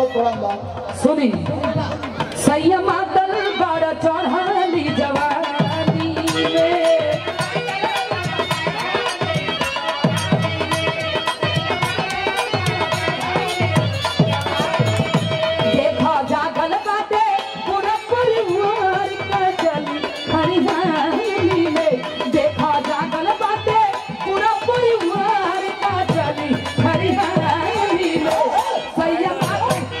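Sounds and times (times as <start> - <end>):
hand drum beating: 4.1 - 30.0.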